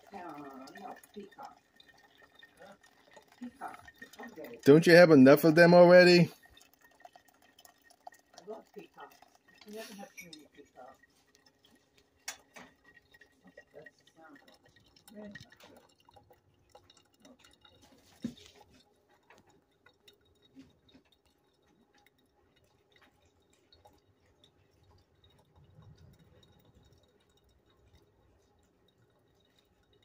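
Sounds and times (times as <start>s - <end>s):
coffee dripping into carafe: 0.0s - 30.0s.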